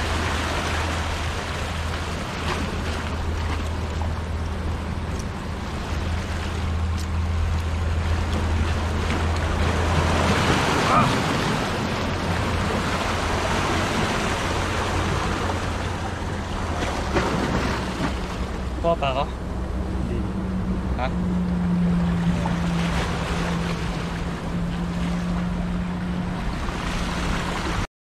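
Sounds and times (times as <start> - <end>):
sea waves washing over rocks: 0.0 - 20.0, 22.1 - 27.9.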